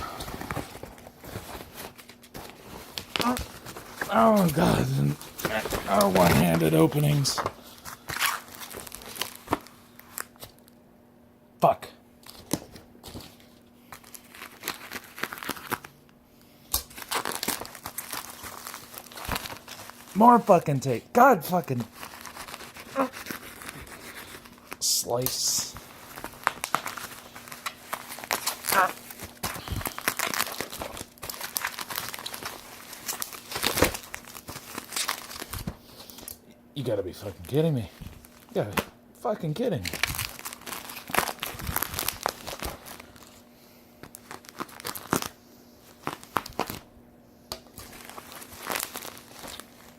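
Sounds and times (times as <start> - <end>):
packing tape crinkling and tearing: 0.0 - 10.6, 12.2 - 16.0, 16.6 - 20.6, 21.7 - 36.4, 39.6 - 43.4, 44.0 - 46.9, 47.5 - 49.9
wrapping rustling: 0.0 - 10.7, 12.2 - 20.9, 21.6 - 36.4, 39.5 - 46.9, 47.6 - 49.9.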